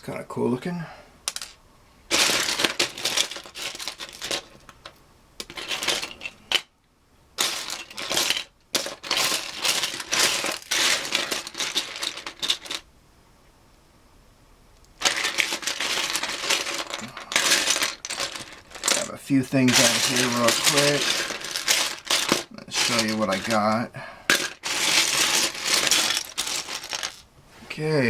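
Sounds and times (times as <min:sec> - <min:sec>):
plastic pieces clattering: 0:01.3 - 0:06.7, 0:07.4 - 0:12.8, 0:15.0 - 0:27.3.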